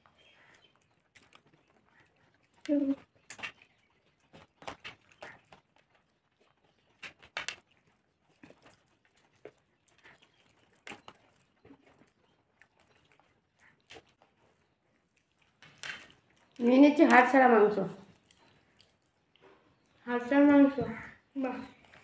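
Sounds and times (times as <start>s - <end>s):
fingers mixing rice on plates: 0.0s - 22.0s
mouths chewing: 0.0s - 22.0s.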